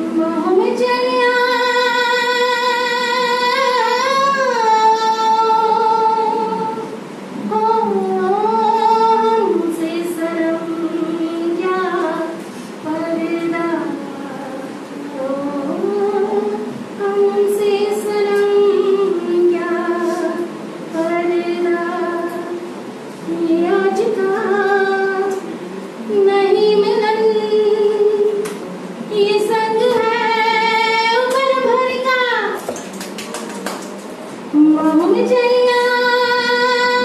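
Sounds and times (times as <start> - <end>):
woman singing: 0.0 - 32.7, 34.5 - 37.0.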